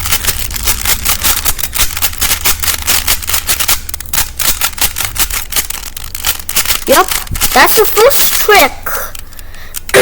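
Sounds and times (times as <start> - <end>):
puzzle cube clicking as turned: 0.0 - 10.0.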